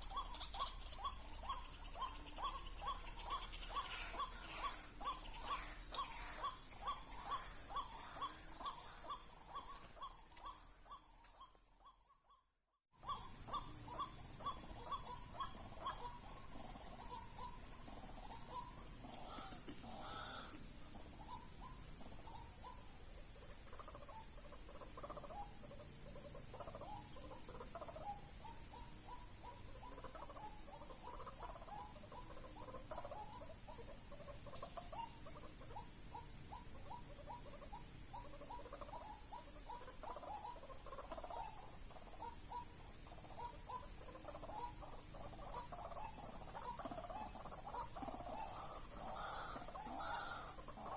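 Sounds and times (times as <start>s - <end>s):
high-pitched insect drone: 0.0s - 11.4s, 13.0s - 50.9s
waterhens calling: 0.0s - 11.5s, 13.0s - 50.9s.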